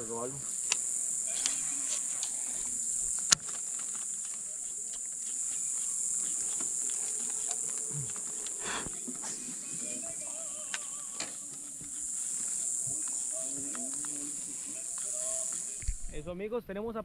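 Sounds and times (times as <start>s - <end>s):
insects chorus: 0.0s - 16.3s
faint ticks: 0.5s - 16.1s.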